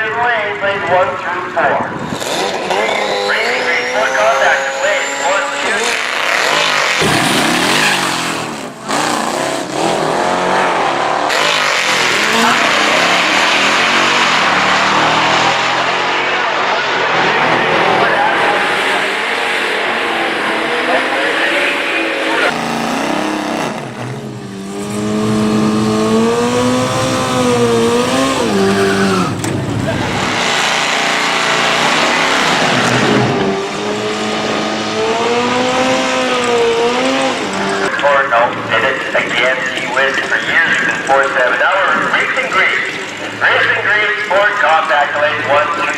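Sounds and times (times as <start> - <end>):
drag racing engine revving: 0.5 - 45.9.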